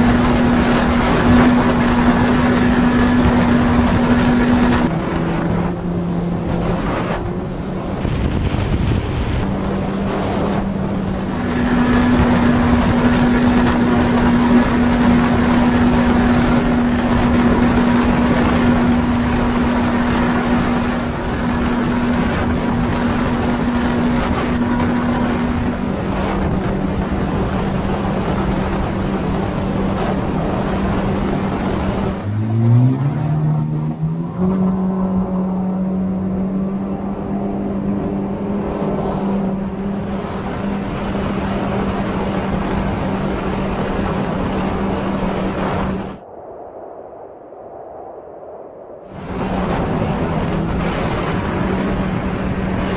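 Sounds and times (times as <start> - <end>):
jet ski engine running: 0.0 - 46.2, 49.2 - 52.9
wind rushing: 0.0 - 52.9.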